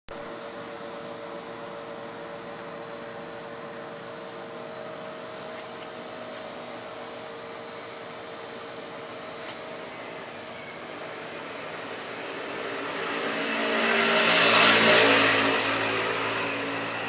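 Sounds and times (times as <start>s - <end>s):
vending machine cooling hum: 0.1s - 17.0s.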